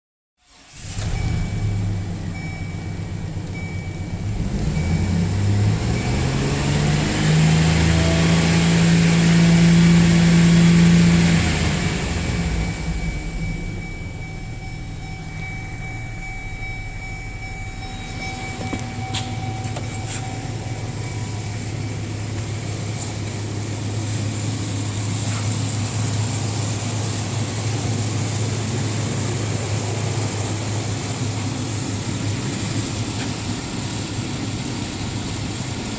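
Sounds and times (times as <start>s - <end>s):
truck engine revving and idling: 0.5s - 35.9s.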